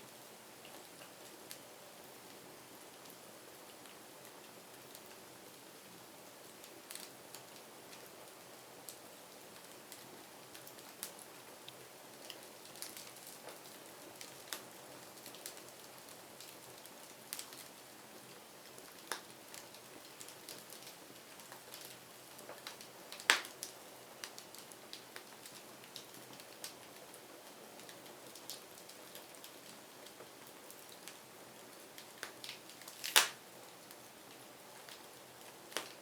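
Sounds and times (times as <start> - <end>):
faint steady hiss: 0.0 - 36.0
wood fire crackling: 0.1 - 36.0.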